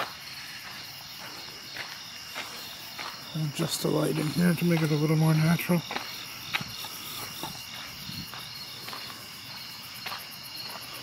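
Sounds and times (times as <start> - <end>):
crickets chirping: 0.0 - 11.0
footsteps on a path: 0.0 - 11.0.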